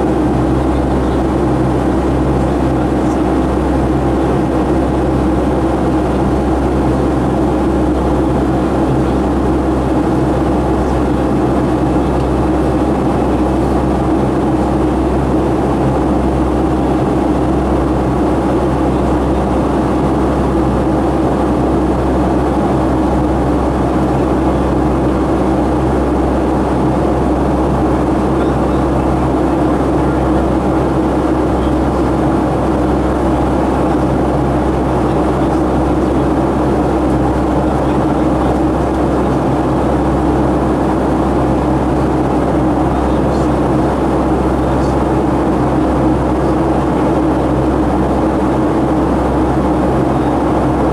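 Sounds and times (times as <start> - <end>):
jet engine drone in cabin: 0.0 - 50.9.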